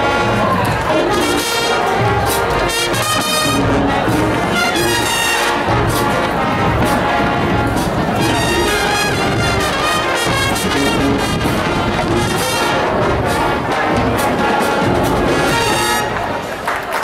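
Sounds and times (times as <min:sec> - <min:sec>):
drums: 0:00.0 - 0:16.6
marching band brass: 0:00.0 - 0:17.0.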